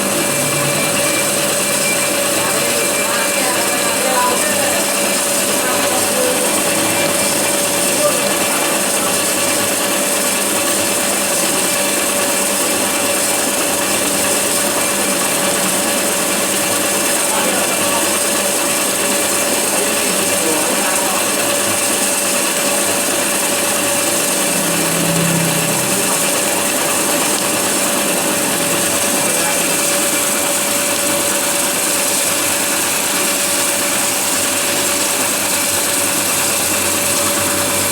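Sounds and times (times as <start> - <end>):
lathe machine hum: 0.0 - 37.9.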